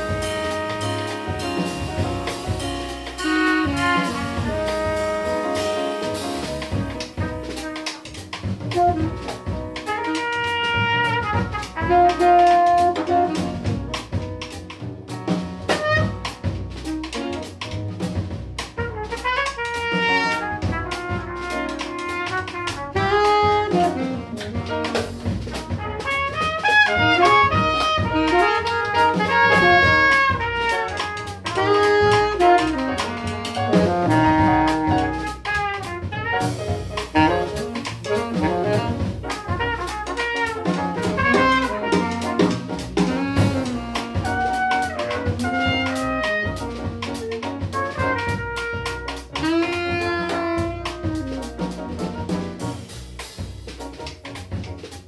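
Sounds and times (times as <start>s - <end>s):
alto saxophone: 0.0s - 13.9s, 15.7s - 16.4s, 18.7s - 52.8s
trumpet: 0.0s - 14.0s, 15.6s - 17.0s, 18.7s - 53.0s
drum kit: 0.0s - 55.0s
piano: 0.0s - 55.0s
upright bass: 0.0s - 55.0s.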